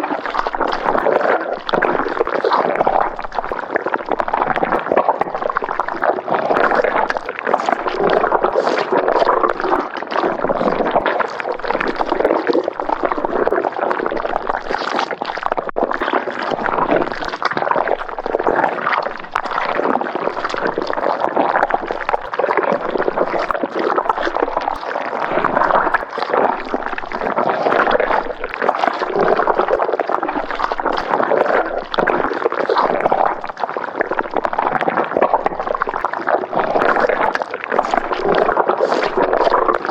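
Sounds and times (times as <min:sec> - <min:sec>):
thick liquid bubbling: 0:00.0 - 0:39.9.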